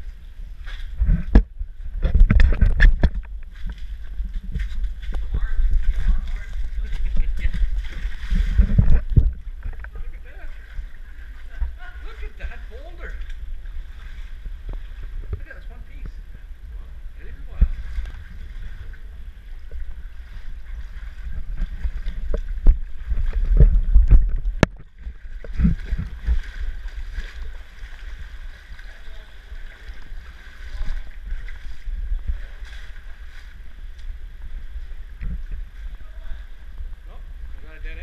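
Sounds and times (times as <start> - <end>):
muffled rumble: 0.0 - 38.0
water sloshing and splashing: 0.0 - 38.0.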